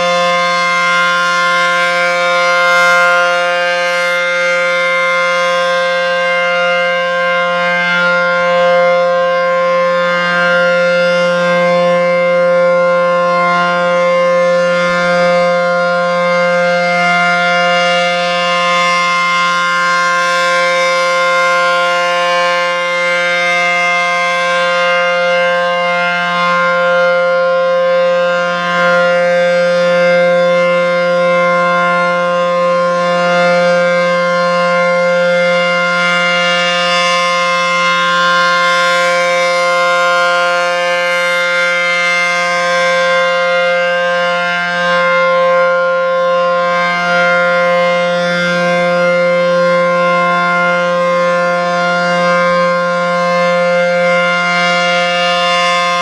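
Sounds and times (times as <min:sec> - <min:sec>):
siren wailing: 0:00.0 - 0:56.0.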